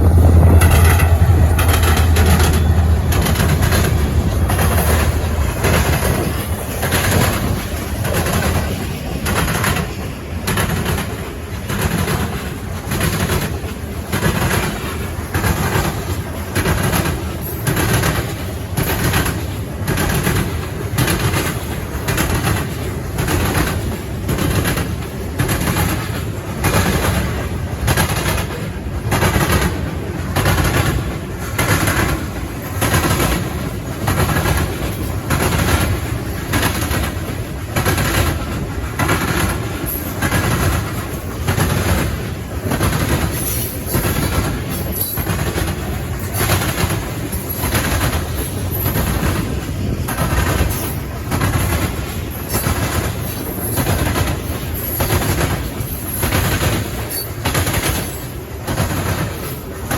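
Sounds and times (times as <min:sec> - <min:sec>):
train wheels clacking over rail joints: 0:00.0 - 0:59.9.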